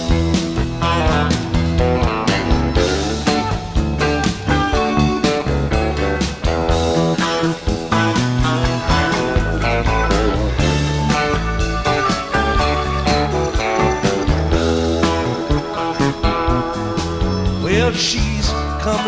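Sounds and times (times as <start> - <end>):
electric guitar: 0.0 - 19.0
live rock band playing: 0.0 - 19.0.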